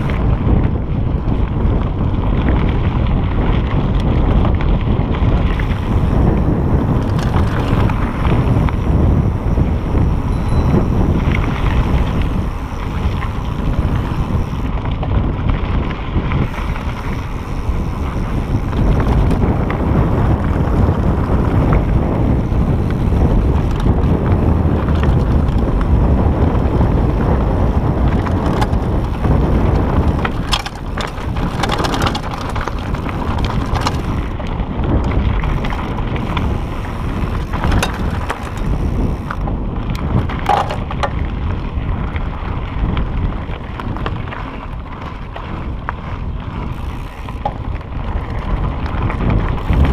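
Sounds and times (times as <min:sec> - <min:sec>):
bike rattling: 0:00.0 - 0:49.9
wind rushing over microphone: 0:00.0 - 0:49.9
tyres crunching over gravel: 0:01.2 - 0:49.9
sharp clicks and clatters: 0:03.7 - 0:41.6, 0:46.6 - 0:49.9.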